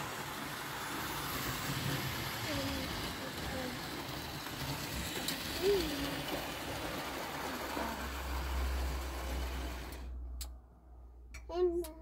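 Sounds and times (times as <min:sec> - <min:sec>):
model train whirring and rattling: 0:00.0 - 0:10.2.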